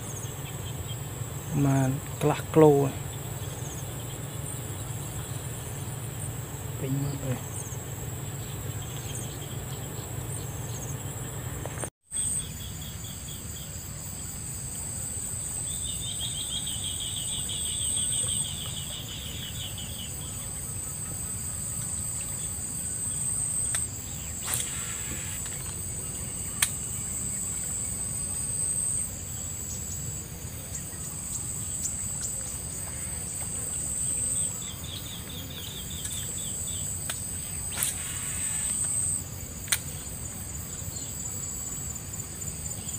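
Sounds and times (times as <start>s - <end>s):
insects chirring: 0.0s - 42.9s
low rapid insect trill: 0.0s - 42.9s.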